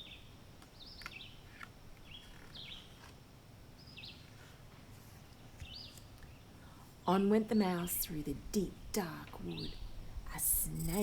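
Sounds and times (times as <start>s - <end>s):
soft background hiss: 0.0s - 11.0s.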